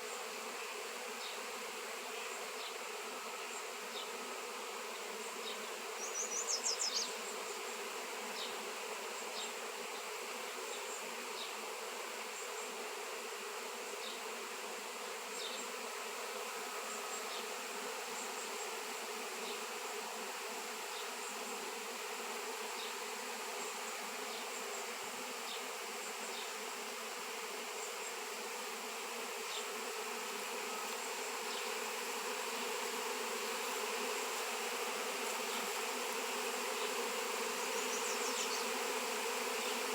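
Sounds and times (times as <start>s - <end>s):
swarm of bees buzzing: 0.0s - 39.9s.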